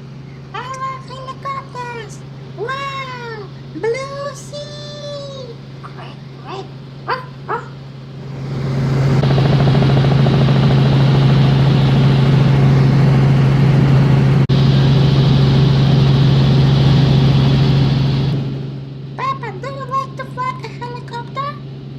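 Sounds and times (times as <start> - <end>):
helicopter engine and rotor drone: 0.0 - 21.9.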